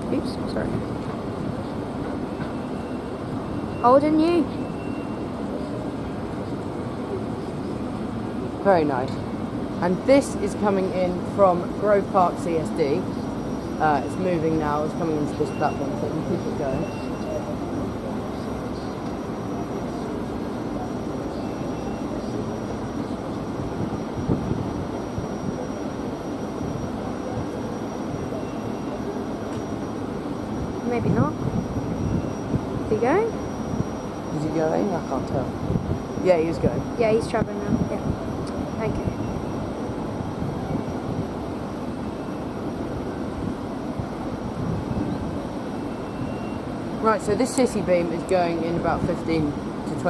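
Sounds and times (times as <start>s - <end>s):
electric train rumble and hum: 0.0s - 50.0s.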